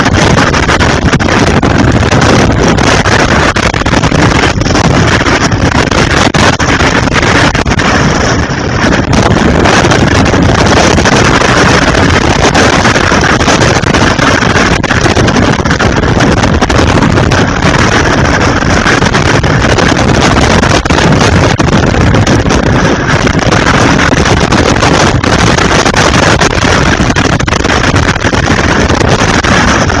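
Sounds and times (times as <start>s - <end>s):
strong wind rushing: 0.0s - 30.0s.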